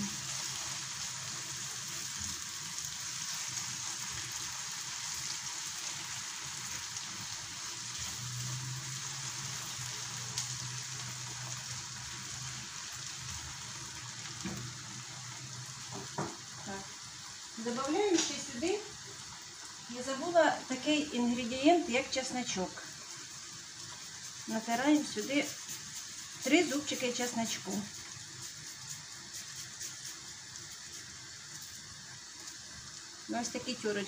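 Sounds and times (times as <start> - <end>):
sauce sizzling in a skillet: 0.0 - 34.0.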